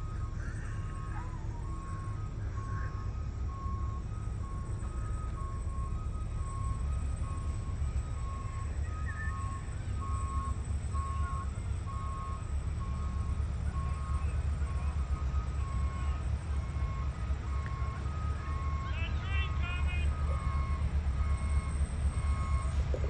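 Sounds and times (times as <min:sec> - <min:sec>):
locomotive engine rumble: 0:00.0 - 0:23.0
two-tone electronic warning beeps: 0:00.0 - 0:23.0.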